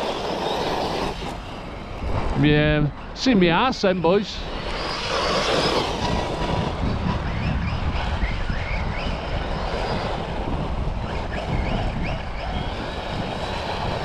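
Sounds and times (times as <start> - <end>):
electric motor whining: 0.0 - 14.0
wind on microphone: 0.0 - 14.0.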